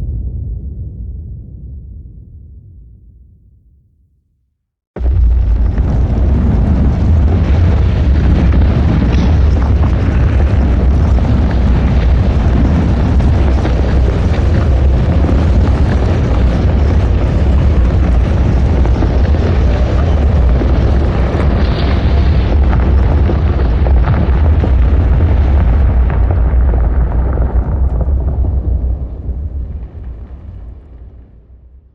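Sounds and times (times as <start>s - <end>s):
deep continuous rumble: 0.0s - 3.6s, 5.0s - 31.9s.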